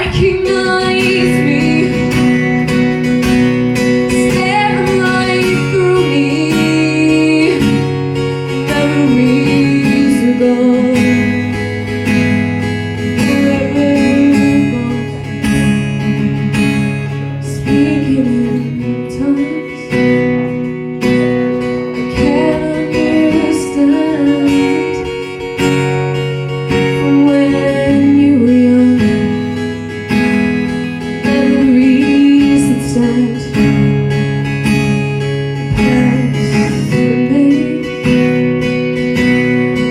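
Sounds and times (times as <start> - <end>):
acoustic guitar playing chords: 0.0 - 39.9.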